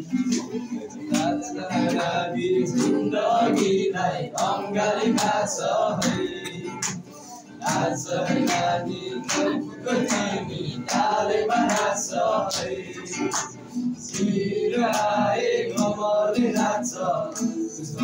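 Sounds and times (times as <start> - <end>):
boys singing together: 0.0 - 18.0
strummed acoustic guitar: 0.0 - 18.0.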